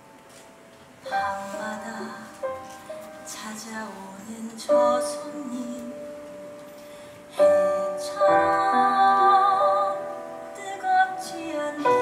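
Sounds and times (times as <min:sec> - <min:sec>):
woman singing ballad: 0:01.1 - 0:06.4, 0:07.3 - 0:12.0.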